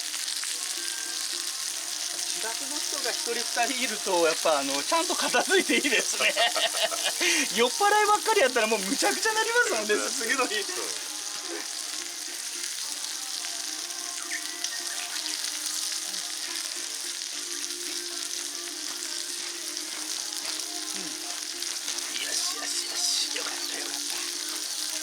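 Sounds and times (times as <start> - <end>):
campfire hissing: 0.0 - 25.0
fire crackles: 0.0 - 25.0.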